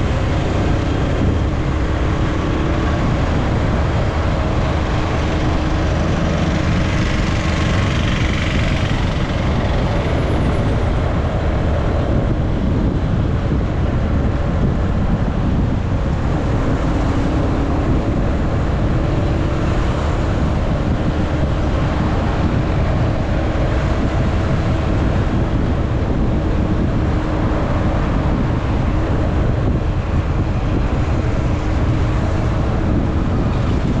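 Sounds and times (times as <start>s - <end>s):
motorcycle engine drone: 0.0s - 34.0s
wind noise on microphone: 0.0s - 34.0s.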